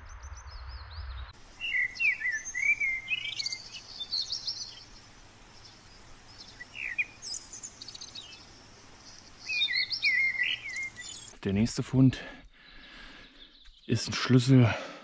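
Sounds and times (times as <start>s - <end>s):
songbirds singing and calling: 0.0s - 15.0s.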